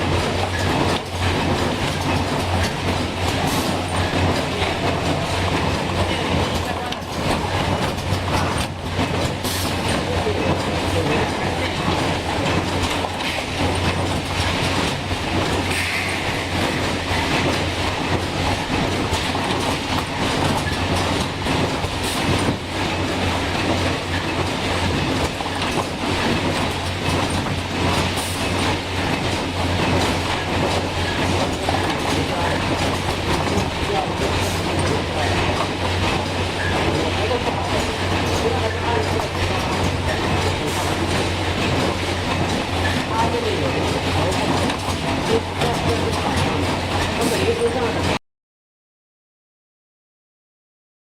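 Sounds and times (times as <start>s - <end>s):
mechanical clatter and clicks: 0.0s - 48.2s.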